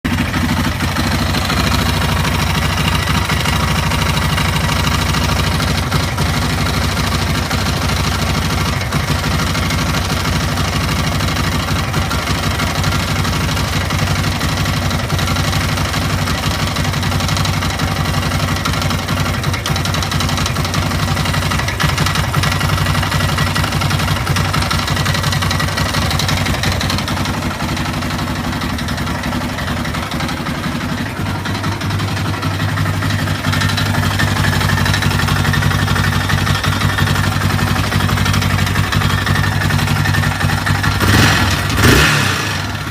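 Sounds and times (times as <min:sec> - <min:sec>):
engine idling: 0:00.0 - 0:42.9
engine knocking: 0:00.0 - 0:42.9.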